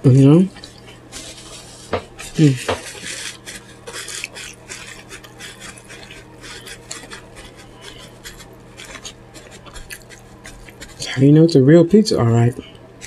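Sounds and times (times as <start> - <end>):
person chewing pizza: 0.5 - 11.2.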